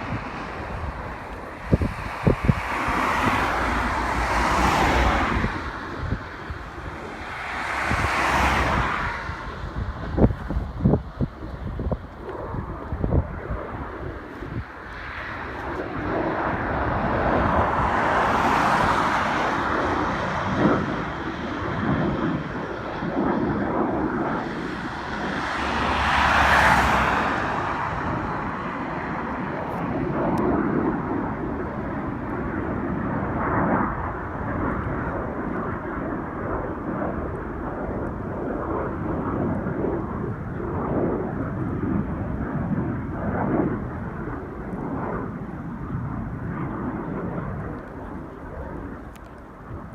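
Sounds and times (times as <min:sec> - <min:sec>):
military jet engines running: 0:00.0 - 0:49.9.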